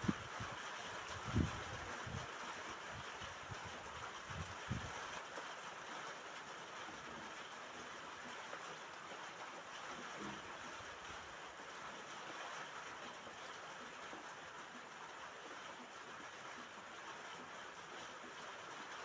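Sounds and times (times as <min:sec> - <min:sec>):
rain on a roof: 0:00.0 - 0:19.0.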